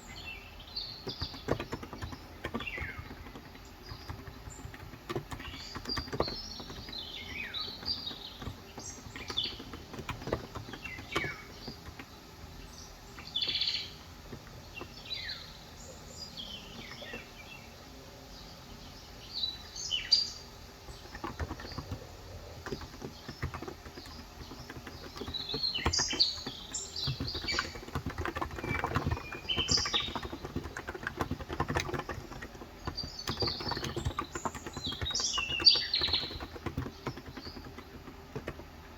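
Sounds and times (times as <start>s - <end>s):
birds chirping: 0.0s - 38.9s
keyboard typing: 0.9s - 15.4s, 20.9s - 38.9s.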